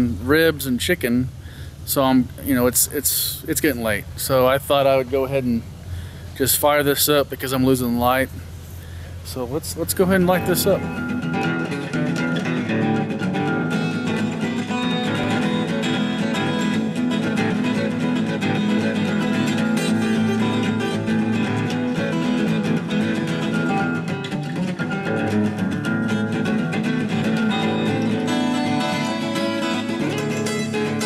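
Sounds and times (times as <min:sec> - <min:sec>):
acoustic guitar music: 0:00.0 - 0:31.0.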